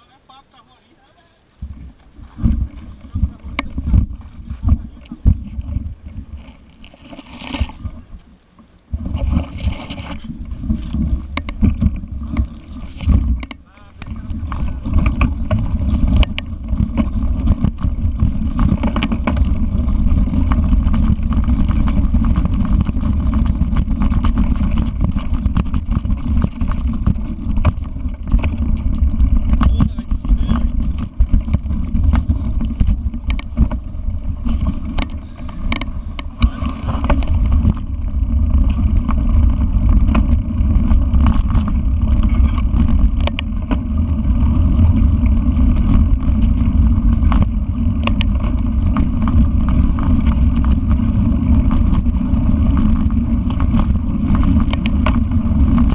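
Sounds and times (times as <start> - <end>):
bike riding rumble: 0.0 - 55.9
bike knocks and rattles: 1.6 - 55.9.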